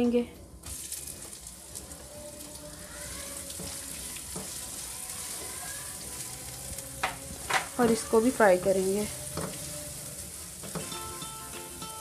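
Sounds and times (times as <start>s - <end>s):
onions sizzling in hot oil: 0.6s - 12.0s.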